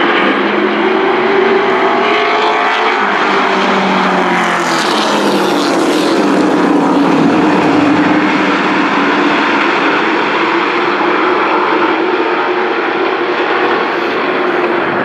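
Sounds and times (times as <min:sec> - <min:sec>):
racing truck engines: 0:00.0 - 0:15.0.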